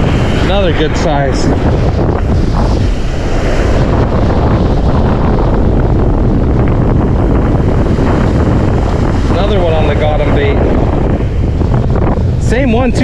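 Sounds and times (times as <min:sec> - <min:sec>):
surf washing up beach: 0:00.0 - 0:13.0
wind on microphone: 0:00.0 - 0:13.0.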